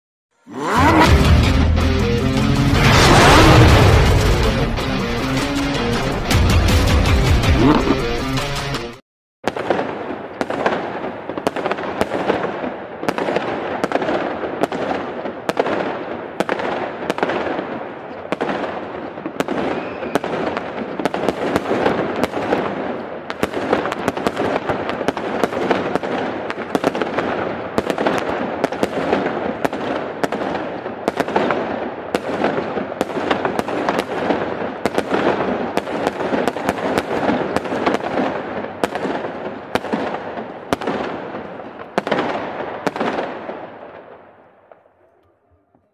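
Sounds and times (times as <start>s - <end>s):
fireworks bangs and cracks: 2.6s - 4.9s, 9.4s - 44.8s
fireworks crackle: 2.8s - 4.4s, 9.4s - 44.8s.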